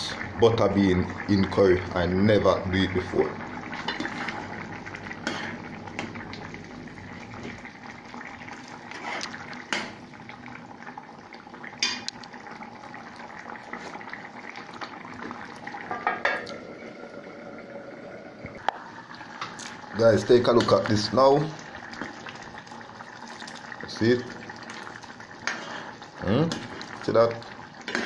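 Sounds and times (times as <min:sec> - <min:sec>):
pot bubbling: 0:00.0 - 0:28.0.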